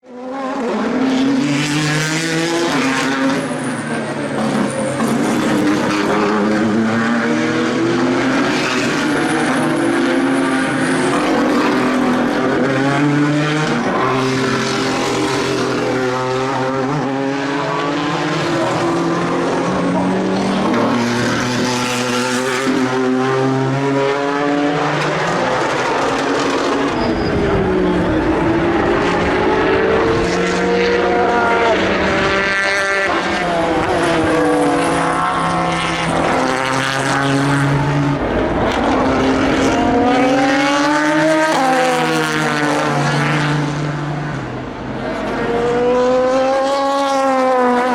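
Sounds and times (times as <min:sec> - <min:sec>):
racing car engines running hard: 0:00.1 - 0:47.9.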